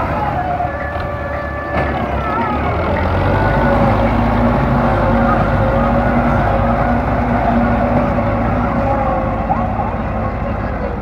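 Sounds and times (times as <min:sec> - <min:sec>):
tractor diesel engine rumbling: 0:00.0 - 0:11.0.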